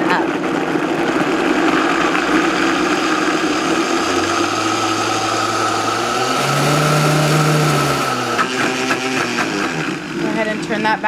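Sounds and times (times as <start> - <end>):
blender motor whine: 0.0 - 11.0.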